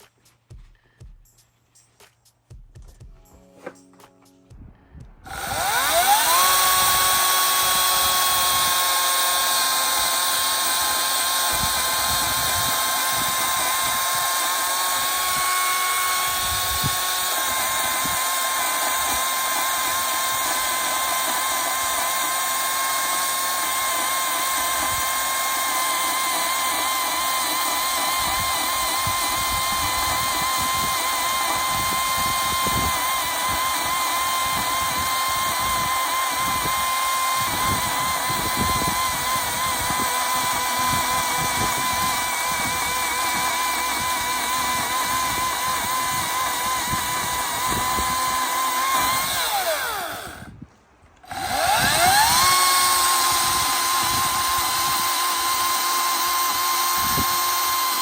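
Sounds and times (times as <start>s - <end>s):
chainsaw high whine: 5.2s - 50.6s, 51.2s - 58.0s.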